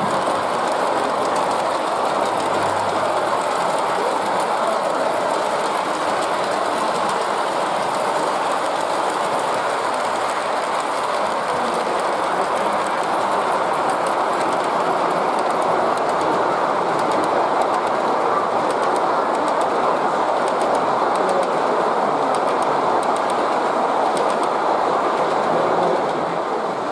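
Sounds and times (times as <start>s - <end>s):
model train wheels rumbling on rails: 0.0s - 26.9s.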